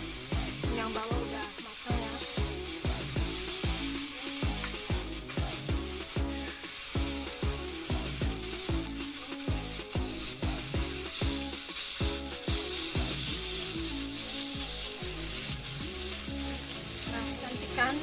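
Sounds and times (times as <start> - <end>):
background music with steady beat: 0.0 - 18.0
tempeh sizzling on grill pan: 0.0 - 18.0.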